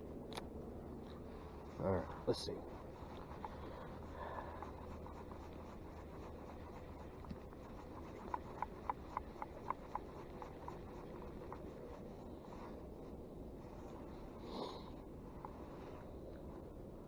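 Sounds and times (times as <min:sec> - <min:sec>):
low outdoor background: 0:00.0 - 0:17.0.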